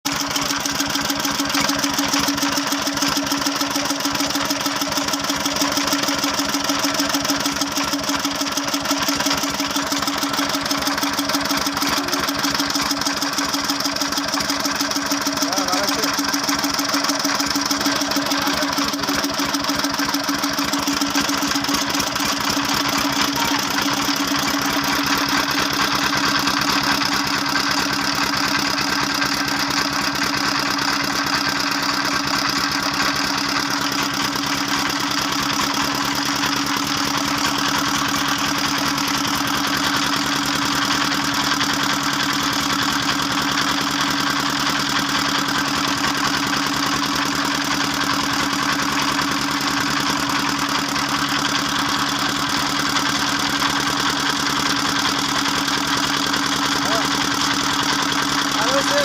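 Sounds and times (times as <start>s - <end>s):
generator engine running: 0.0s - 59.0s.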